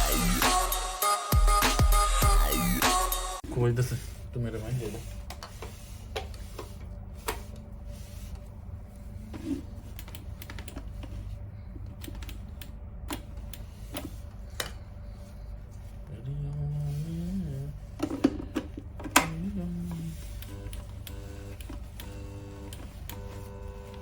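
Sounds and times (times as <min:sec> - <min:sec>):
steady low hum: 0:03.4 - 0:24.0.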